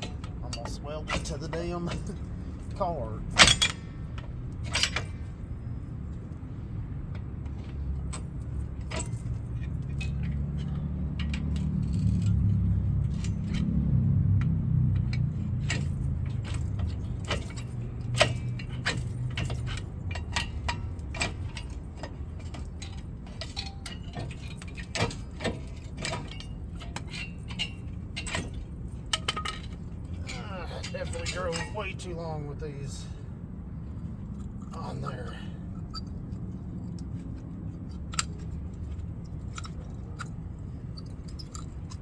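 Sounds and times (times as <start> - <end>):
metallic clinks and knocks: 0.0 - 6.4, 7.1 - 32.1, 35.7 - 42.0.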